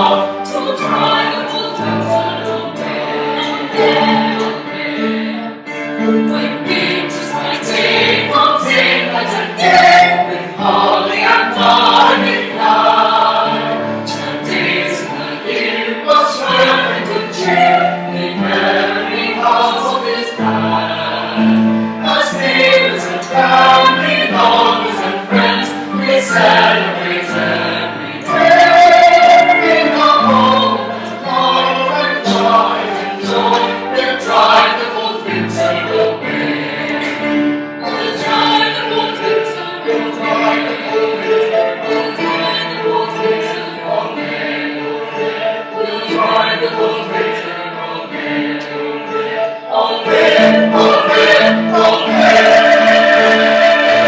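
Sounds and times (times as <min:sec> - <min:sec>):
choir singing a carol: 0:00.0 - 0:54.0.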